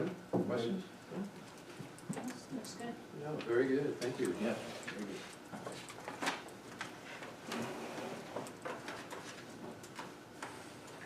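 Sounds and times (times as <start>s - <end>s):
faint meeting room noise: 0.0s - 11.0s.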